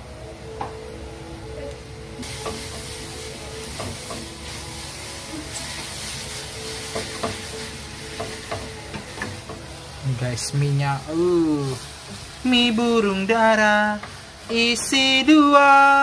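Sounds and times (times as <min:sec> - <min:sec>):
noodles sizzling in a pan: 0:01.8 - 0:16.0.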